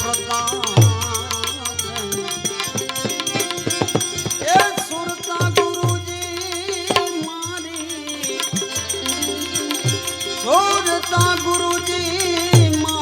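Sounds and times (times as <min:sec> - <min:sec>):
hand drum beat: 0:00.0 - 0:13.0
jingling hand percussion: 0:00.0 - 0:13.0.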